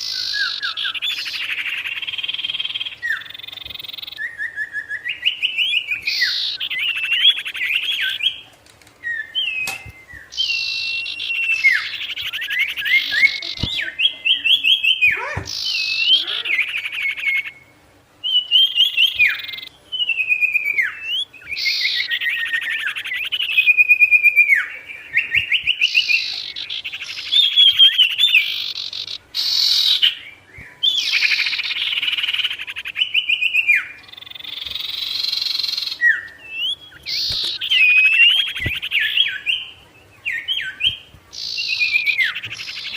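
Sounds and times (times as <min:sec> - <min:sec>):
songbird trilling and whistling: 0:00.0 - 0:42.9.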